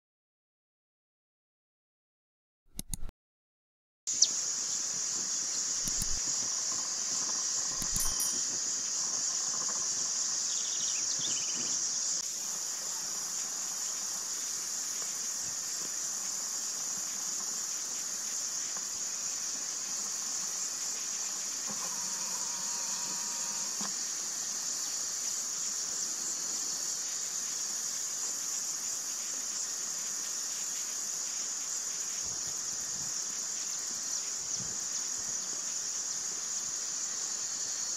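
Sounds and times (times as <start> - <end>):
insects chirring: 4.1 - 37.9.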